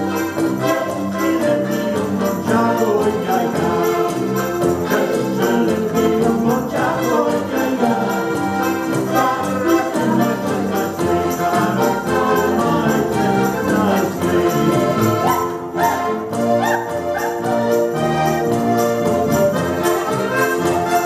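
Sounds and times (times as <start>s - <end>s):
accordions playing a tune: 0.0s - 21.0s.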